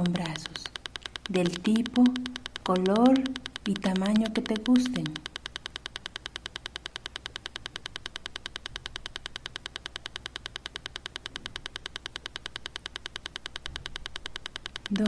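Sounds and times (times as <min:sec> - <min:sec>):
faint low hum: 0:00.0 - 0:15.0
fast even clicking pulse: 0:00.0 - 0:15.0.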